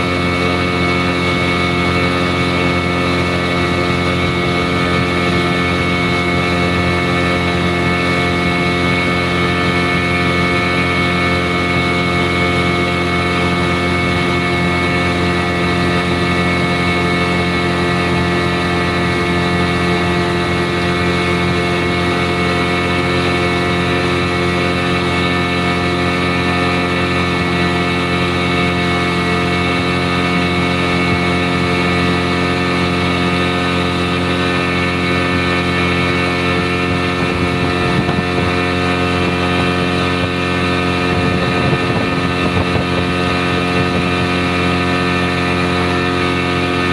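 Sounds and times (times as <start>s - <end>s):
boat engine running: 0.0s - 46.9s.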